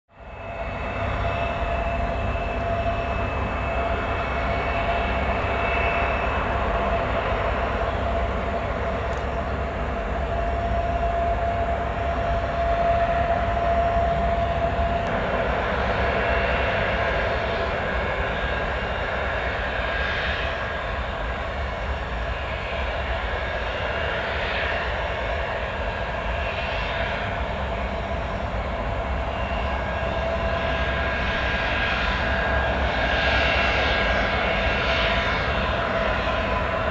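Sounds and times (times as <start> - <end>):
jet engines whining: 0.2 - 36.9.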